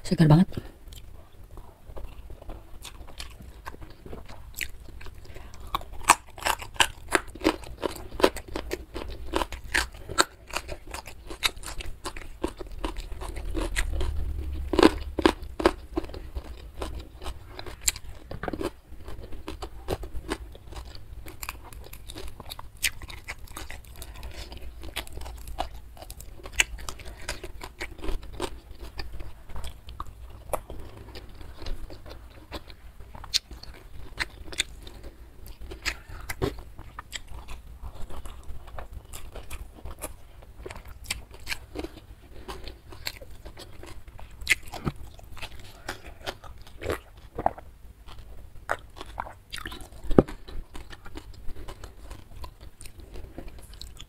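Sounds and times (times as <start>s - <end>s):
person crunching food: 0.9s - 54.0s.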